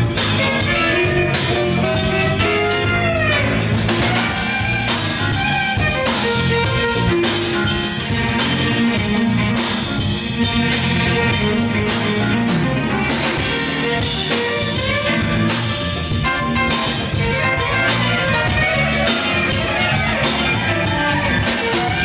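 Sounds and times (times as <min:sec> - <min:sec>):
drum kit and congas beat: 0:00.0 - 0:22.0
live band playing instrumental: 0:00.0 - 0:22.0.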